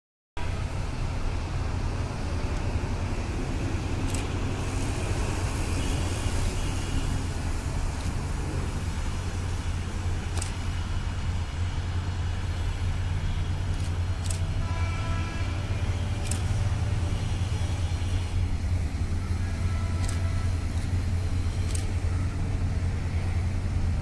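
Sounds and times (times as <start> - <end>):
distant engines rumbling: 0.4 - 24.0.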